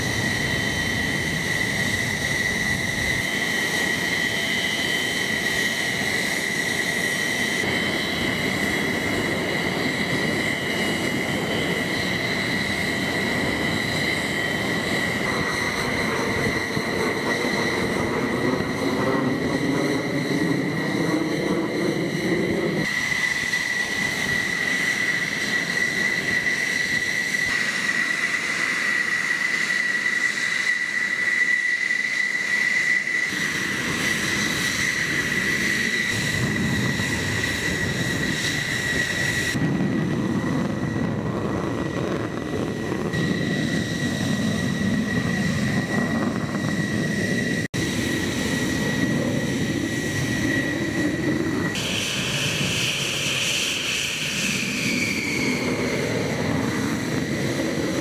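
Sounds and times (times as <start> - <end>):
jet engine idling: 0.0 - 58.0.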